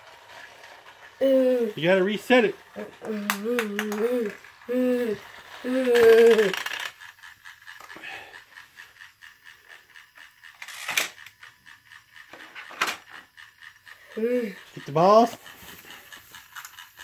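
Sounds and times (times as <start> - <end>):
toy train clicking: 0.0 - 17.0
toy train sharp clacks: 0.0 - 17.0.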